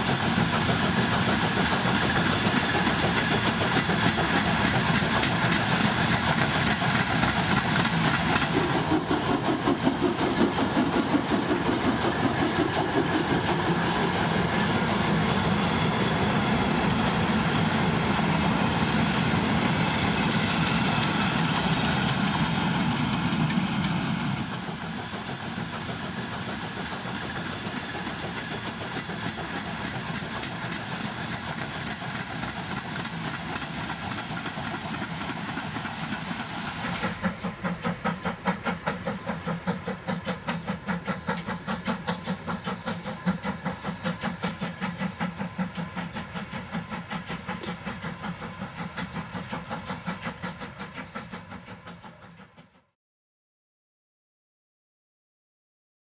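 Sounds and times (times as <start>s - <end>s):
train wheels rattling over track: 0.0s - 52.9s
steam train passing: 0.0s - 53.0s.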